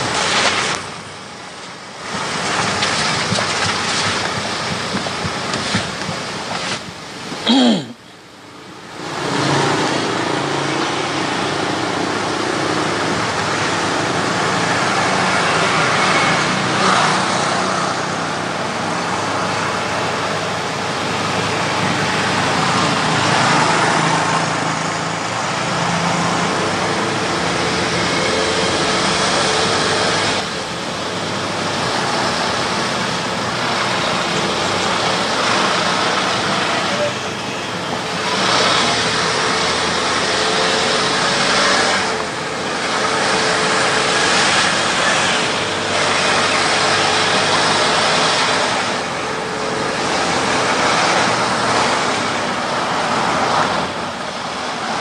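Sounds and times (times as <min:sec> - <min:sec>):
car engine hum: 0:00.0 - 0:55.0
road noise: 0:00.0 - 0:55.0.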